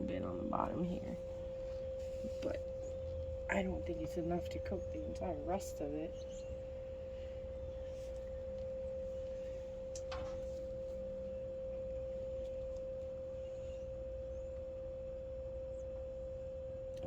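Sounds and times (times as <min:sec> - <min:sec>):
steady pure tone: 0:00.0 - 0:17.0.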